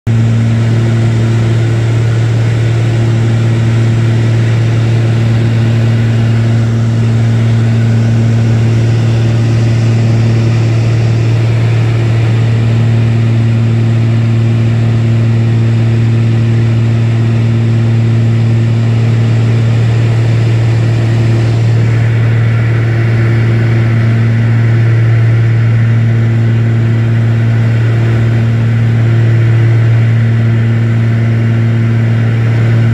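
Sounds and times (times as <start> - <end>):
aircraft engine hum: 0.1 - 32.9.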